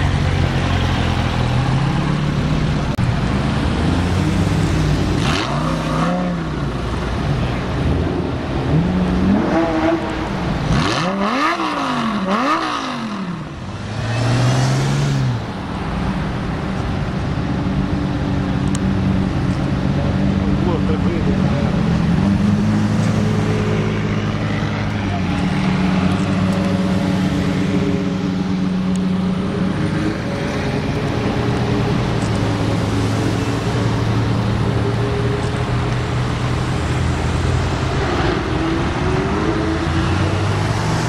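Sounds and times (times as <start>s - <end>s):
sports car engines revving: 0.0s - 41.0s.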